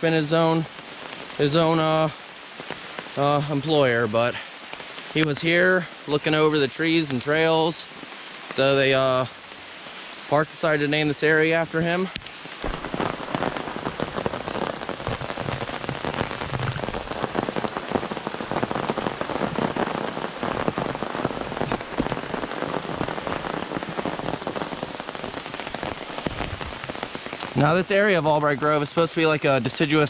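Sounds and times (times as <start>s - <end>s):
rain pattering on umbrella: 0.0s - 30.0s.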